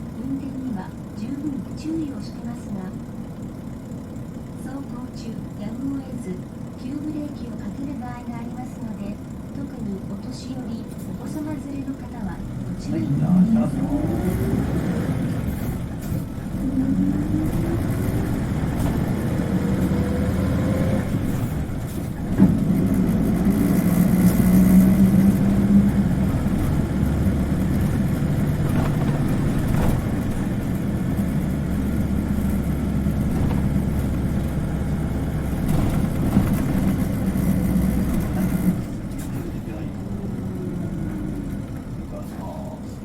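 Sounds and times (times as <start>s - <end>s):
bus diesel engine whining: 0.0s - 43.0s.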